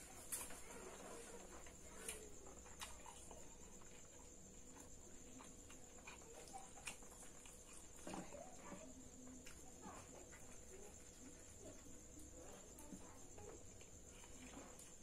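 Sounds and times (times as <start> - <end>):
animal eating: 0.0 - 15.0.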